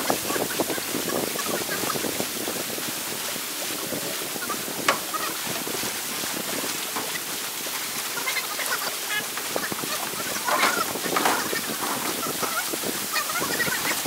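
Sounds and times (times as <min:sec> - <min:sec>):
lake water lapping: 0:00.0 - 0:14.0
wind on microphone: 0:00.0 - 0:14.0.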